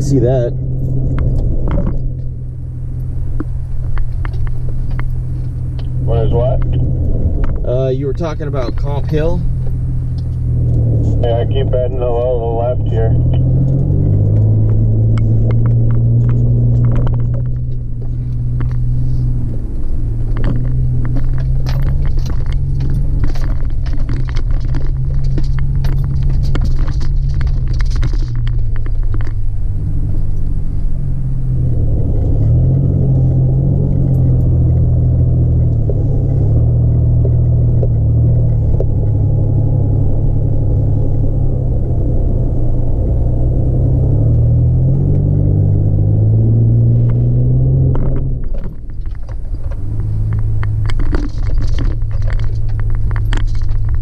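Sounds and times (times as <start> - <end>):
vehicle engine and tyres rumbling: 0.0 - 54.0.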